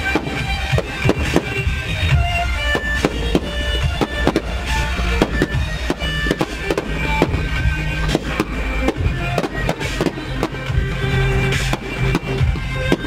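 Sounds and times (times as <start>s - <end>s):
fireworks bangs and crackles: 0.0s - 13.0s
loud music: 0.0s - 13.0s.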